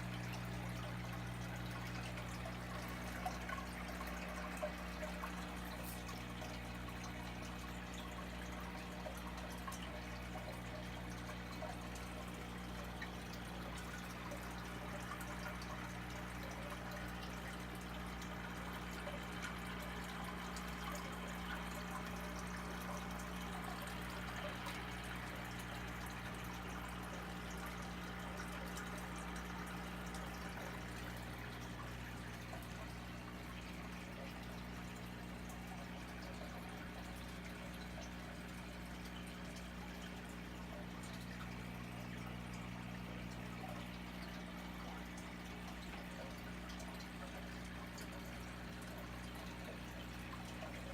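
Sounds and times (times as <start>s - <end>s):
aquarium water trickling: 0.0s - 50.9s
steady low hum: 0.0s - 50.9s.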